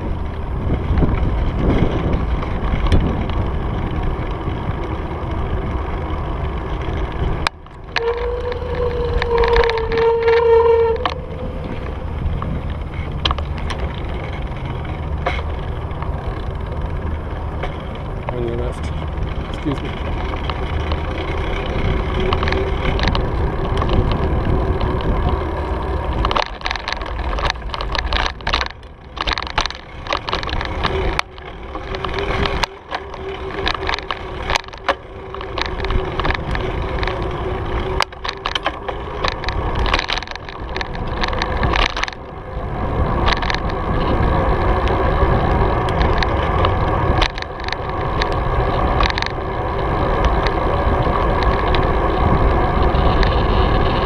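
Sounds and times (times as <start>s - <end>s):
bike rattling over bumps: 0.0s - 54.0s
tyres rumbling on pavement: 0.0s - 54.0s
wind buffeting microphone: 0.0s - 54.0s.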